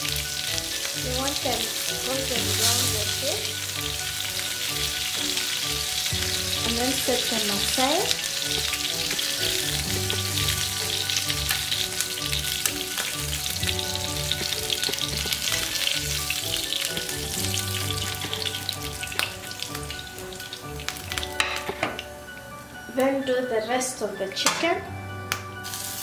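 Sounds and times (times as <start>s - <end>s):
chicken sizzling in a pan: 0.0s - 22.2s, 25.6s - 26.0s
quiet background music: 0.0s - 26.0s.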